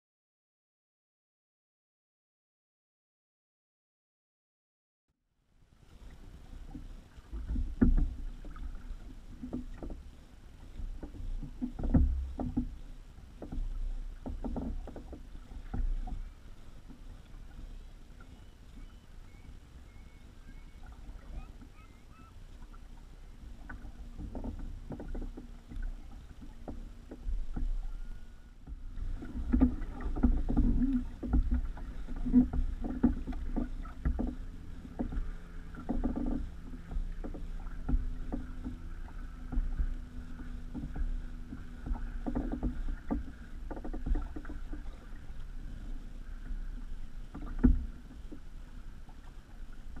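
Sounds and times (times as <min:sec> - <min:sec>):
water slapping against hull: 0:05.8 - 0:50.0.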